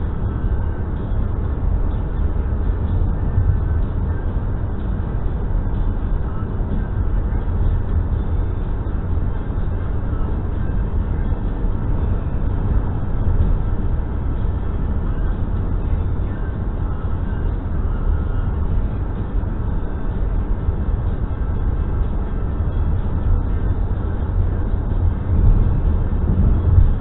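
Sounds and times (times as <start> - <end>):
car cabin road rumble: 0.0 - 27.0.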